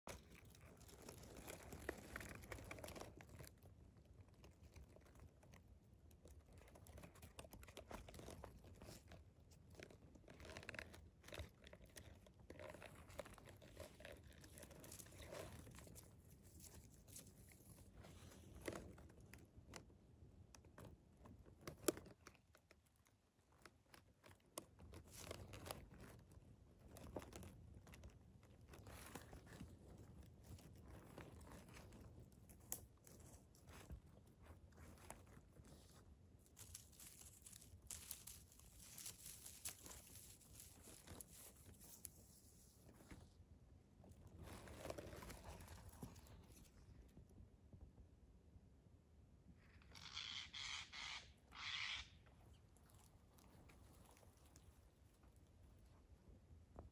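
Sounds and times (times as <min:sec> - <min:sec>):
faint rustling and crackling: 0:00.0 - 0:48.4, 0:51.8 - 0:56.9.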